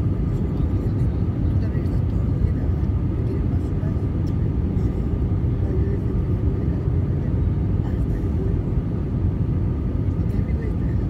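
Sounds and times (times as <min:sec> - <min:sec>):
jet engine and airflow rumble: 0:00.0 - 0:11.0.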